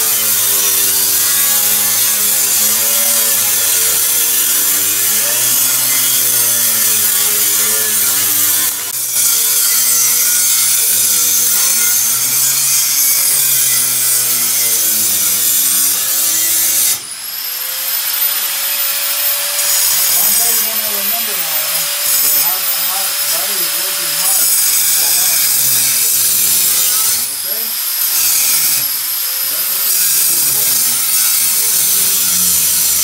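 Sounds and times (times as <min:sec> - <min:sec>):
angle grinder cutting sheet metal: 0:00.0 - 0:33.0.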